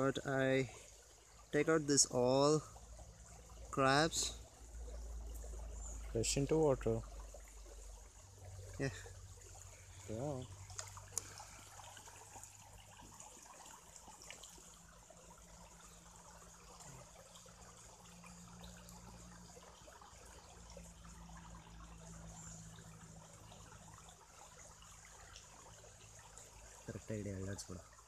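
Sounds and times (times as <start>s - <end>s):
low steady hum: 0.0s - 28.0s
shallow water trickling: 0.0s - 28.0s.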